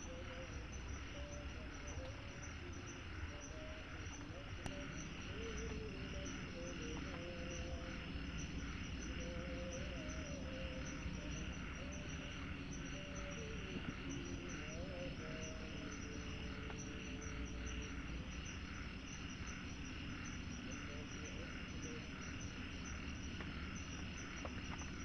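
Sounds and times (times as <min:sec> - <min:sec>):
faint wavering gliding tones: 0:00.0 - 0:25.0
forest insects chirping: 0:00.0 - 0:25.0.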